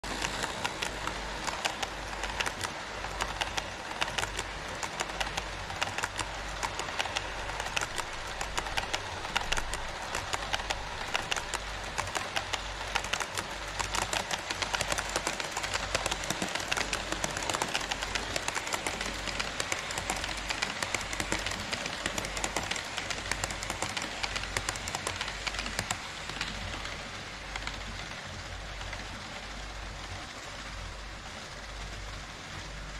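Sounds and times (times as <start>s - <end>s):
model train wheels rattling: 0.0s - 29.6s.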